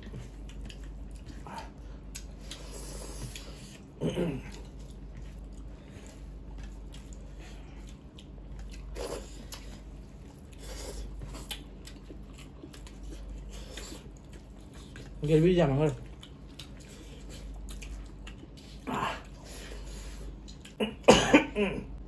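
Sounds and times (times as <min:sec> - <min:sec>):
chewing and squishing food: 0:00.0 - 0:20.8.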